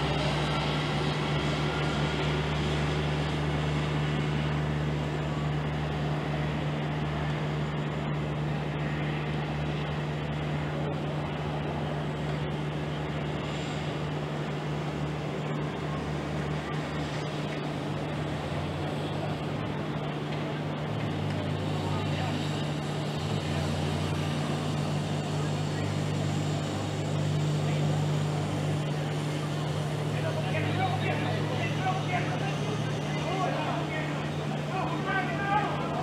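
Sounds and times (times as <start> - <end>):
road traffic hum: 0.0 - 36.0.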